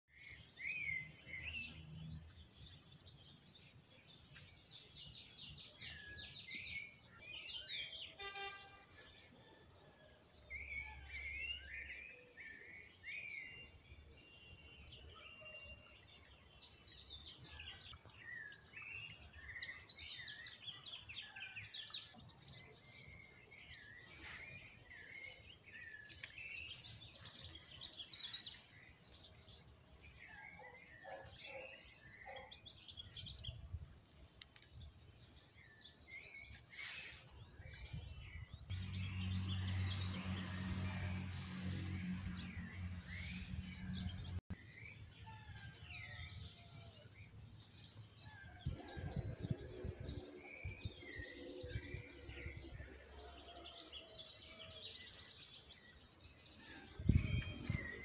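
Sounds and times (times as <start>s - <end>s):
birds chirping and singing: 0.1s - 58.0s.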